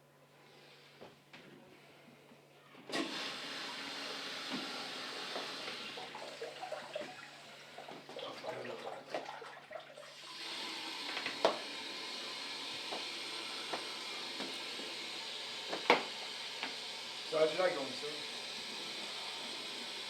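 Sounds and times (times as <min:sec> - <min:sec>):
water running from sink tap: 0:03.0 - 0:20.0.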